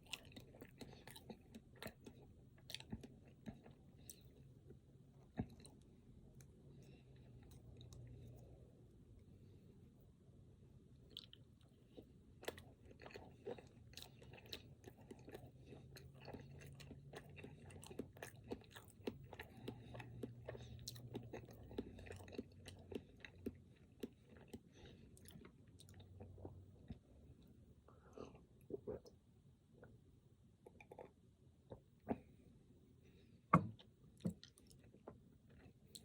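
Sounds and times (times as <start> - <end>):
close-miked chewing: 0.0 - 8.6, 11.0 - 27.6, 30.6 - 32.3, 33.8 - 36.0.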